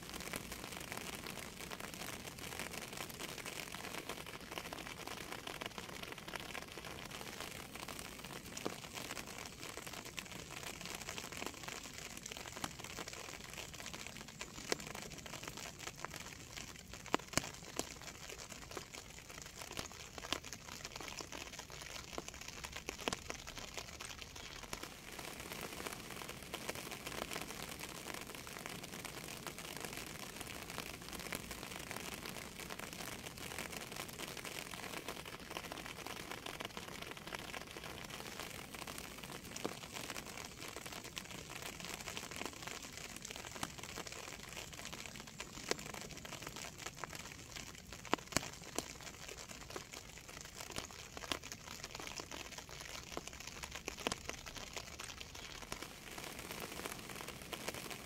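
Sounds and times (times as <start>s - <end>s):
rain pattering: 0.0s - 58.0s
water drips: 7.8s - 58.0s.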